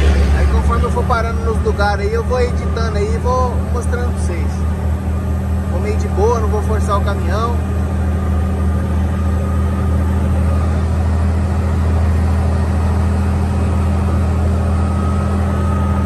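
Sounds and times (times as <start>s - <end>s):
faint higher whine: 0.0s - 16.0s
truck diesel engine drone: 0.0s - 16.0s.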